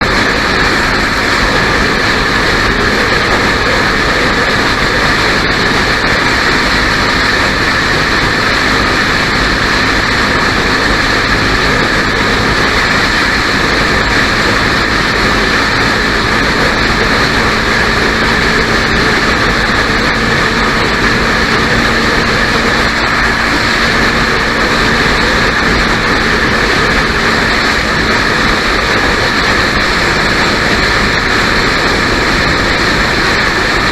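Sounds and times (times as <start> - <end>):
motorcycle engine cruising: 0.0 - 33.9
wind and road noise: 0.0 - 33.9.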